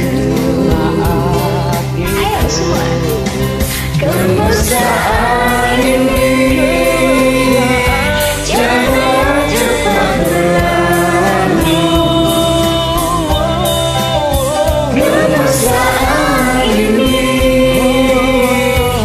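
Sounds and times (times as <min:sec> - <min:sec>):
karaoke backing track: 0:00.0 - 0:19.0
voices singing a pop ballad: 0:00.0 - 0:19.0.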